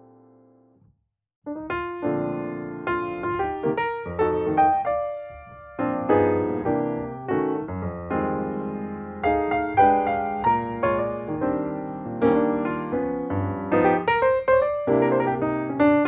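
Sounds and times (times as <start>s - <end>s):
piano music: 1.5s - 16.0s.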